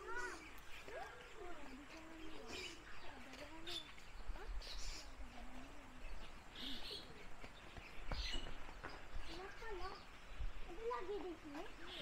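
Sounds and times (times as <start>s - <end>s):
captive birds calling: 0.0s - 12.0s
faint voices: 0.0s - 12.0s.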